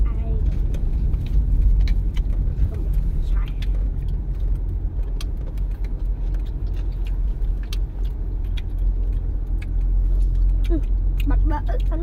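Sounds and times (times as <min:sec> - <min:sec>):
engine and road rumble: 0:00.0 - 0:12.0
small clicks and rattles: 0:00.4 - 0:12.0.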